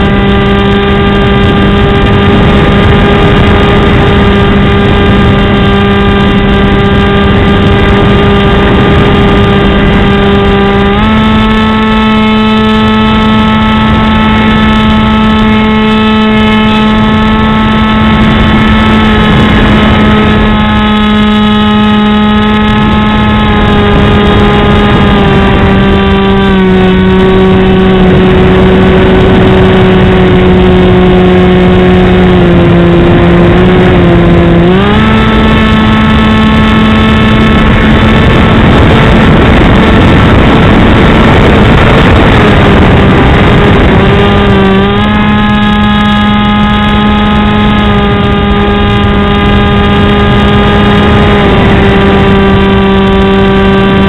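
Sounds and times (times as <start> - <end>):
electric motor and propeller buzzing: 0.0 - 54.0
wind rushing over microphone: 0.0 - 54.0.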